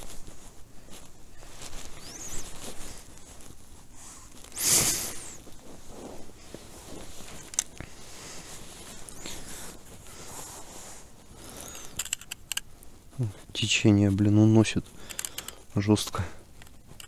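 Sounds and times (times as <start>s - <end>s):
rustling handling noise: 0.0s - 17.0s.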